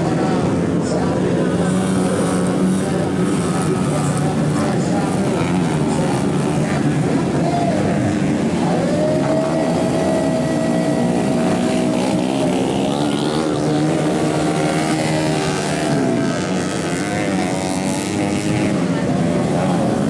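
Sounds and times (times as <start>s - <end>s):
motocross engines revving: 0.0s - 20.0s.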